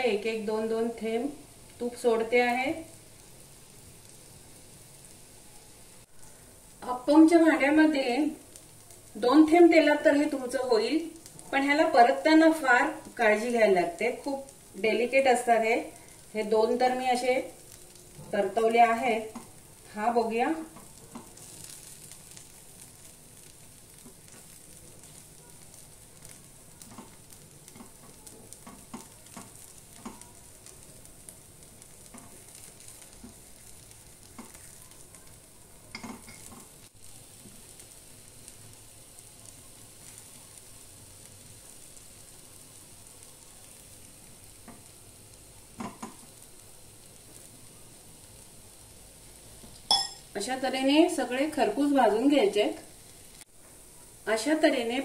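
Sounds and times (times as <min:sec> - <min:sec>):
faint sizzle of frying: 0:00.0 - 0:55.0.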